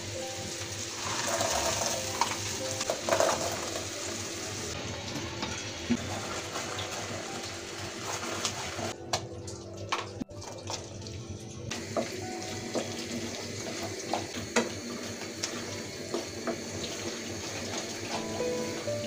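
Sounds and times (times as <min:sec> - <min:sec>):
mixture bubbling and sizzling: 0:00.0 - 0:19.0.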